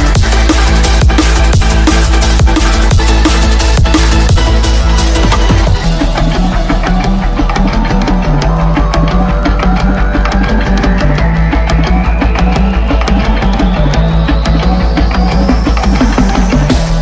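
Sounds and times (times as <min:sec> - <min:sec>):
electronic music with heavy bass: 0:00.0 - 0:17.0
rising synth tone: 0:00.0 - 0:17.0.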